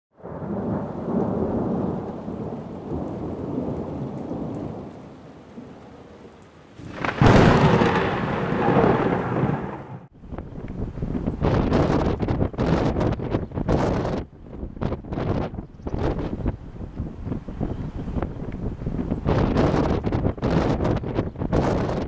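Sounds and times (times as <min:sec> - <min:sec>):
sharp thunderclap: 0:00.2 - 0:04.9, 0:06.8 - 0:22.0
thunder rumbling: 0:00.2 - 0:22.0.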